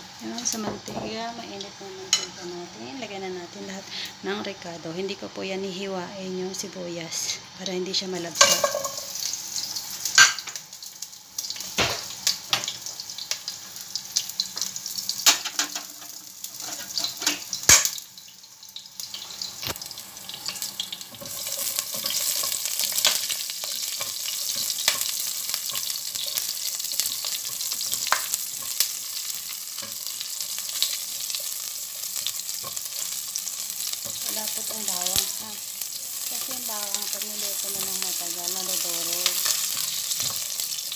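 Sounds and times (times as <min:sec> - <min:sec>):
vegetables sizzling in hot oil: 0:00.0 - 0:40.9.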